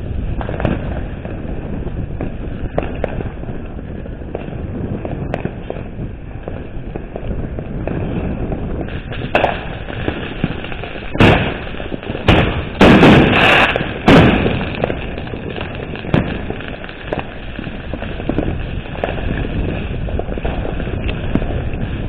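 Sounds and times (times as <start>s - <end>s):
fireworks banging: 0.0s - 22.0s
low rumble: 0.0s - 22.0s.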